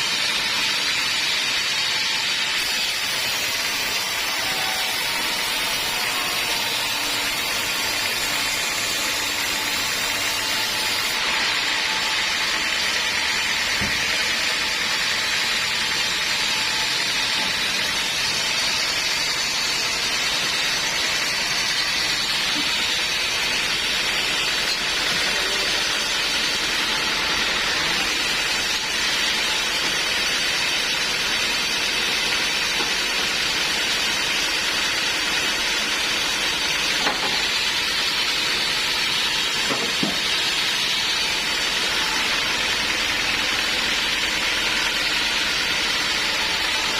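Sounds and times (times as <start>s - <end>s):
band sawmill cutting log: 0.0s - 46.9s.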